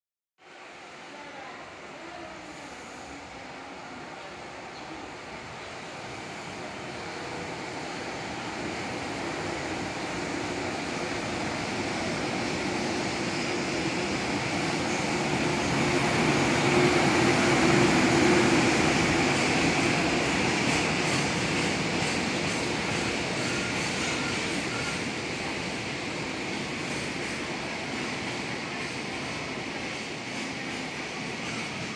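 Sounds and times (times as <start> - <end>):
electric locomotive passing: 0.5 - 31.9.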